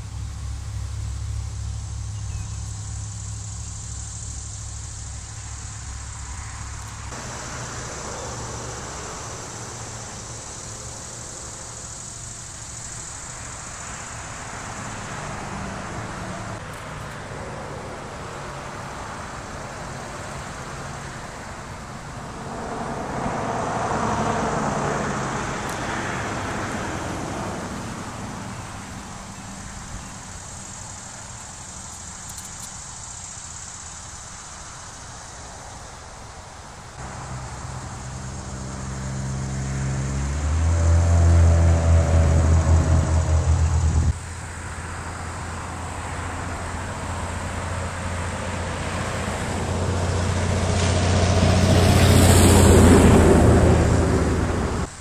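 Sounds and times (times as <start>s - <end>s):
low steady engine-like hum: 0.0s - 32.1s, 36.5s - 55.0s
vehicles passing: 0.0s - 55.0s.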